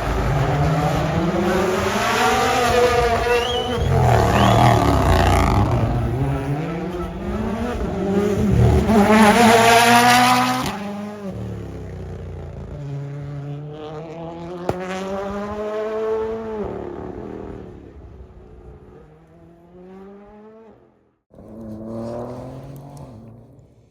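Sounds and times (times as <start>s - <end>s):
another car engine: 0.0s - 20.7s
rally car engine accelerating: 0.0s - 23.9s.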